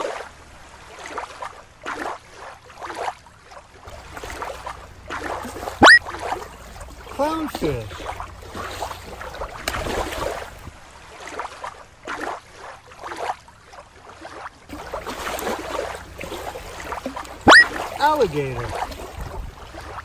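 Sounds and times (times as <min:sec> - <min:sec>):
water lapping at shore: 0:00.0 - 0:20.0.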